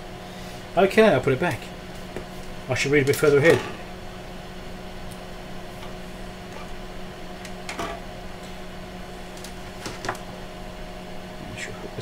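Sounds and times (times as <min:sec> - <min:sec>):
electronics humming: 0:00.0 - 0:12.0.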